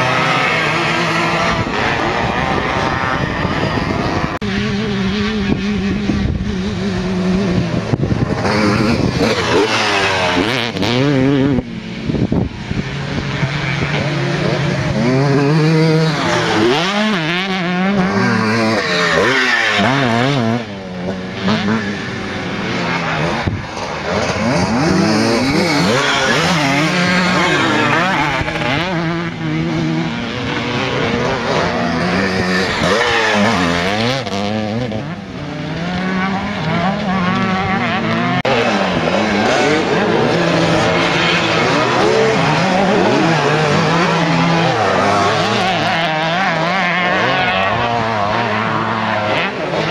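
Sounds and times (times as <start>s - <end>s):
motocross motorcycles revving: 0.0s - 49.9s.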